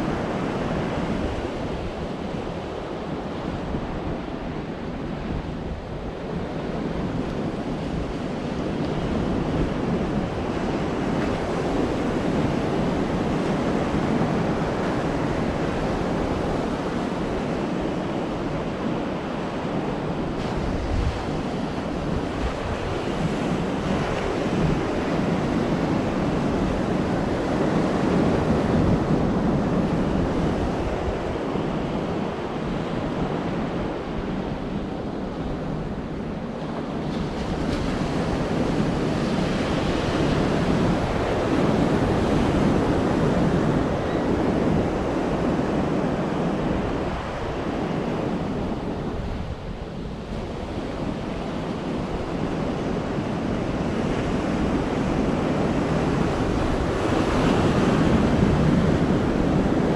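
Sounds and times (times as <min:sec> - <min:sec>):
sea surf washing onto beach: 0:00.0 - 0:59.9
wind rumbling on microphone: 0:00.0 - 0:59.9.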